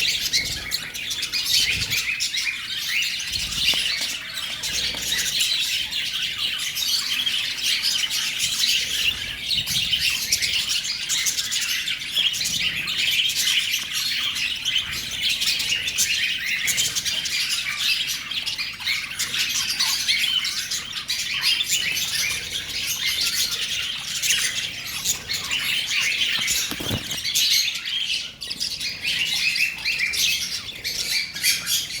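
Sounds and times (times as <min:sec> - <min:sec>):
small parrots chirping: 0:00.0 - 0:32.0.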